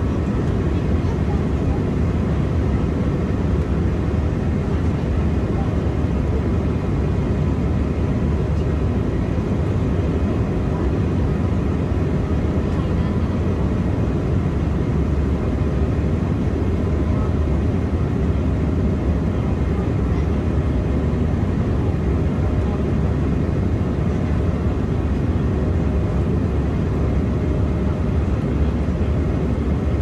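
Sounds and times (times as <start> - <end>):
jet engine drone: 0.0 - 30.0.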